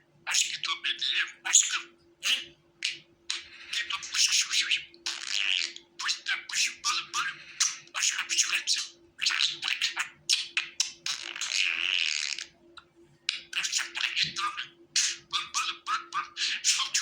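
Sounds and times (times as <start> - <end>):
budgerigar chattering: 0.3 - 12.6, 13.3 - 17.0.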